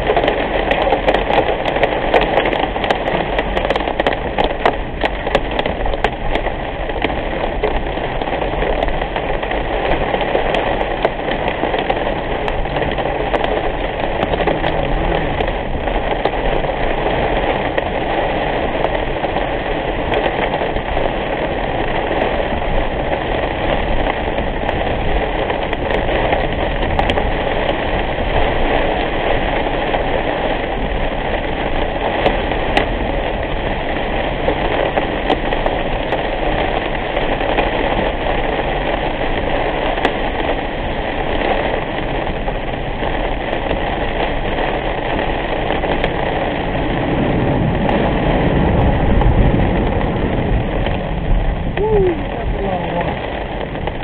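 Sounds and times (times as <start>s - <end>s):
heavy rain on car windshield: 0.0s - 54.0s
raindrops ticking on glass: 0.0s - 54.0s
road and engine noise: 0.0s - 54.0s.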